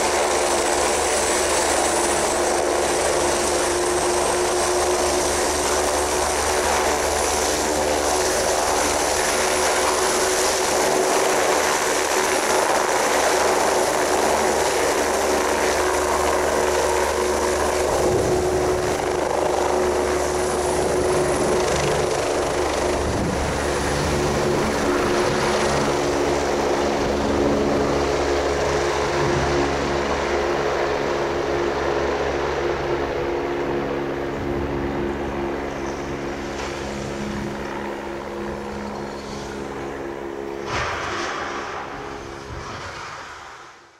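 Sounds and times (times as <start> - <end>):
helicopter engine whine: 0.0 - 43.9
helicopter rotor noise: 0.0 - 43.9.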